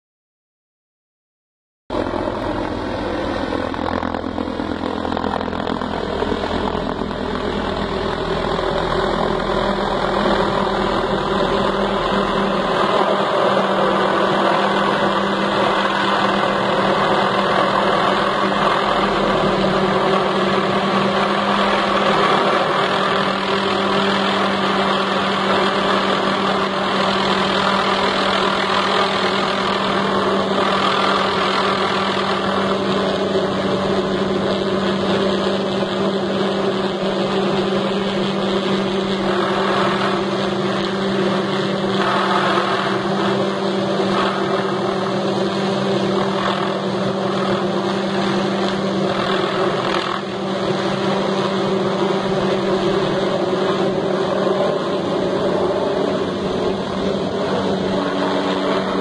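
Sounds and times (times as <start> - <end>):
constant hum: 1.9 - 59.0
helicopter rotor and engine: 1.9 - 59.0.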